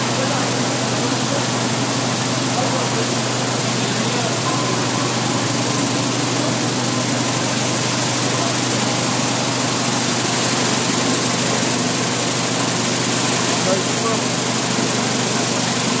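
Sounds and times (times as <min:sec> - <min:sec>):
low motor hum: 0:00.0 - 0:16.0
machine hiss: 0:00.0 - 0:16.0.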